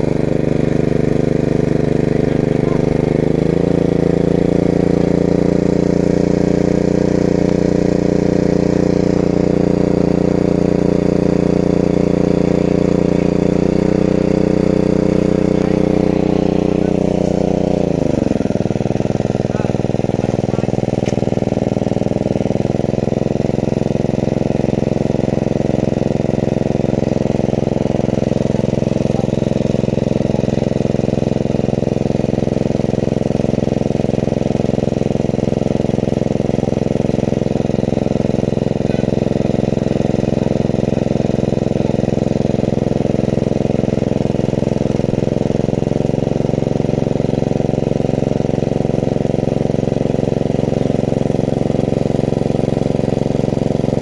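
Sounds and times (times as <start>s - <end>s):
small water pump engine running: 0.0s - 54.0s.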